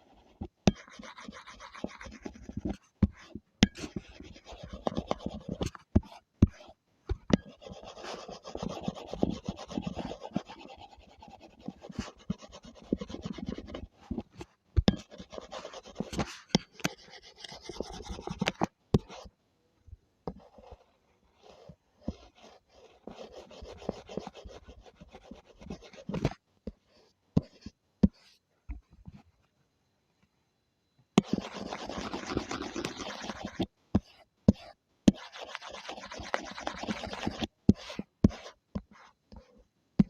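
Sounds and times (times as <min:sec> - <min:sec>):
drawing tool scratching on paper: 0:00.0 - 0:19.3, 0:20.3 - 0:28.4, 0:31.2 - 0:39.7.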